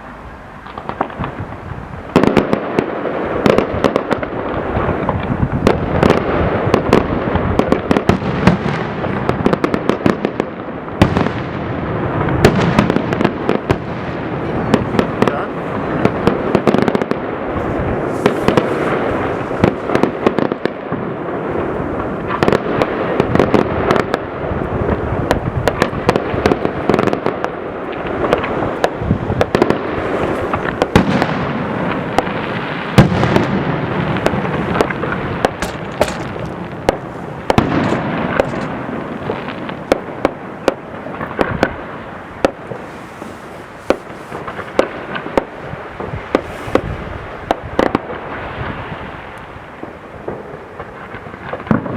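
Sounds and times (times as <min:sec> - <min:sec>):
fireworks bangs and cracks: 0:00.0 - 0:51.9.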